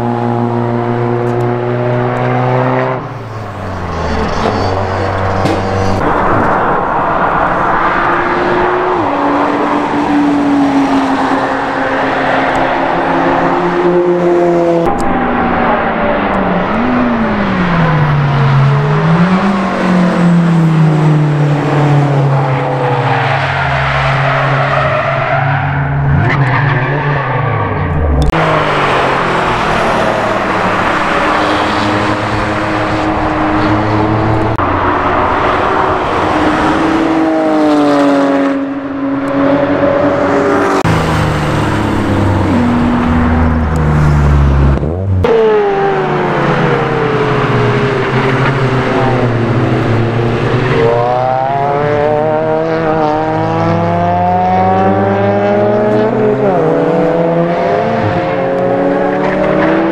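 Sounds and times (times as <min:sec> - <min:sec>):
sports cars passing on race track: 0:00.0 - 0:59.9.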